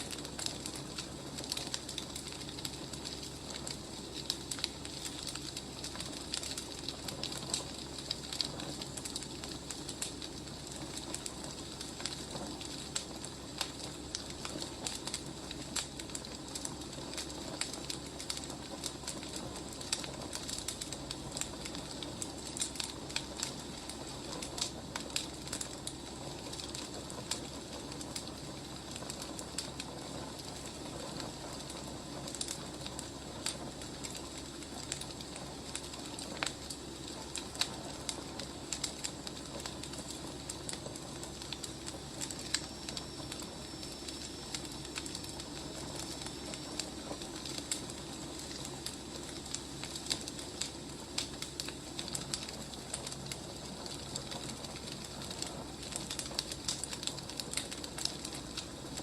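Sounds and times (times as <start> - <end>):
fire hissing: 0.0 - 59.0
wood fire crackling and popping: 0.0 - 59.0.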